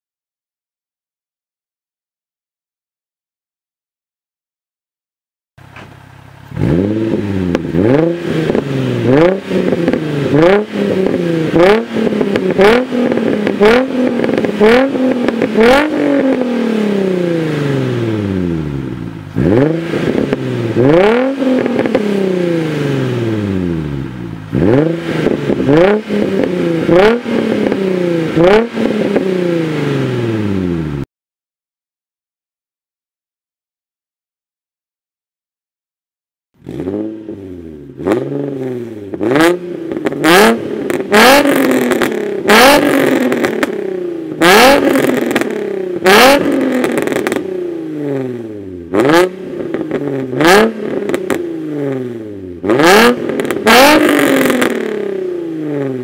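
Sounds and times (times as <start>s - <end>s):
car exhaust revving: 5.6s - 31.0s, 36.6s - 56.0s.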